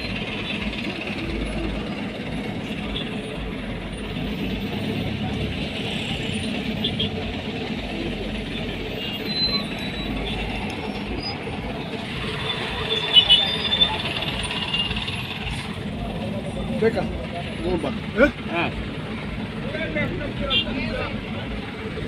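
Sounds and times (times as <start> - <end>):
idling cars and motorcycles: 0.0 - 22.0.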